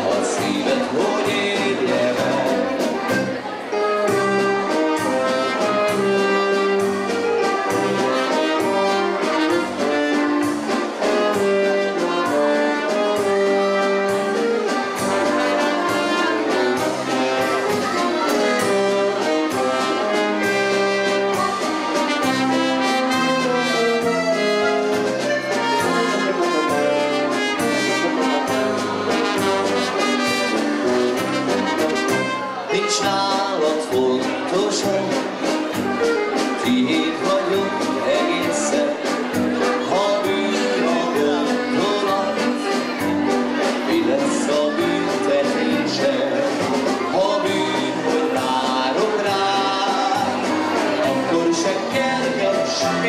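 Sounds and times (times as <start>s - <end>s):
brass band playing dance music: 0.0s - 53.0s.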